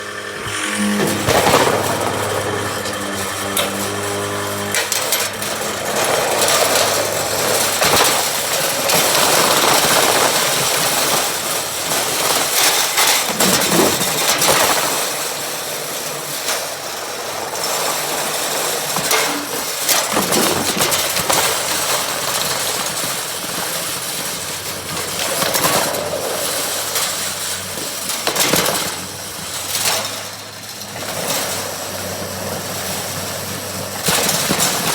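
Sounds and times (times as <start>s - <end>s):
rattling clatter: 0.0s - 34.9s
riding lawnmower engine: 0.0s - 34.9s.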